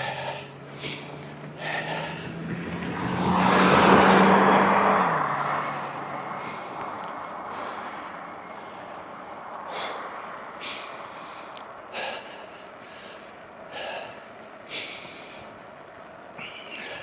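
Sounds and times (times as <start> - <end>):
person breathing heavily: 0.0 - 17.0
wind and tyres rushing: 0.0 - 17.0.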